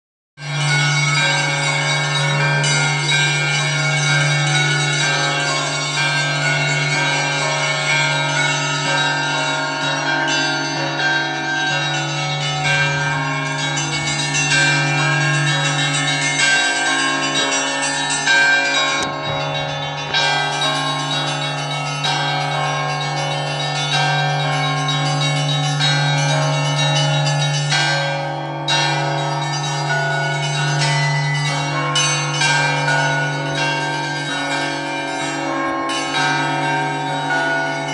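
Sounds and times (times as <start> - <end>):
church bells pealing: 0.4 - 37.9.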